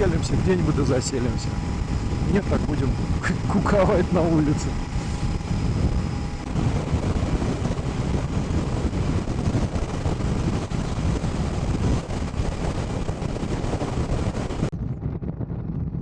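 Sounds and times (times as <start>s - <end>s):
motorcycle engine: 0.0s - 14.7s
road noise: 0.0s - 14.7s
wind rushing over microphone: 0.0s - 15.5s.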